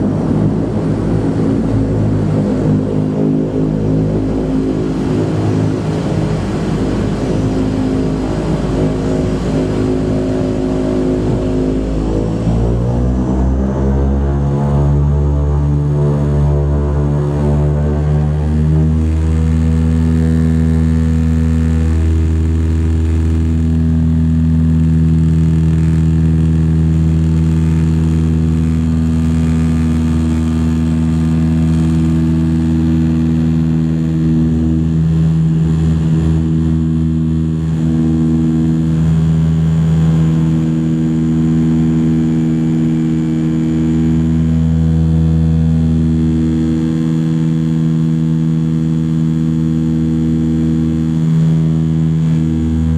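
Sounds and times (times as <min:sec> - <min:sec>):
loud propeller drone in cabin: 0:00.0 - 0:52.9.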